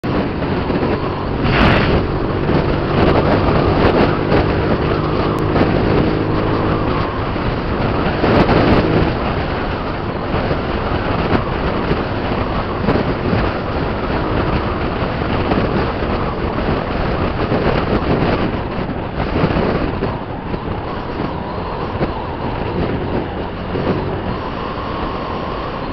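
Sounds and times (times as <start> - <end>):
wind rush on microphone: 0.0 - 25.9
scooter engine running: 0.4 - 25.9.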